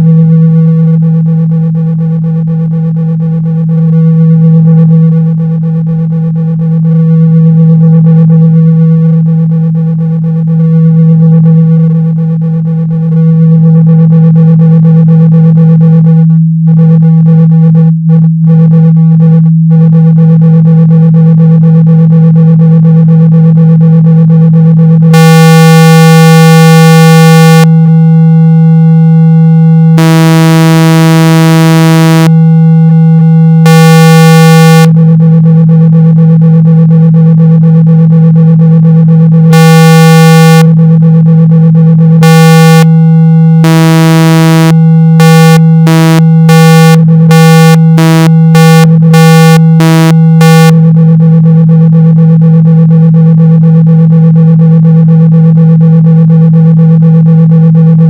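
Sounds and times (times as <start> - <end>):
low synthetic buzzing tone: 0.0 - 58.0.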